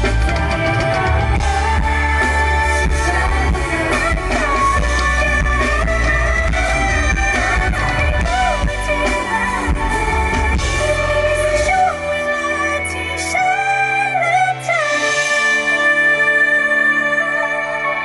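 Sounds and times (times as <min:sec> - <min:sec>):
bass guitar: 0:00.0 - 0:18.0
drums: 0:00.0 - 0:18.0
electric guitar: 0:00.0 - 0:18.0
person singing: 0:00.0 - 0:18.0.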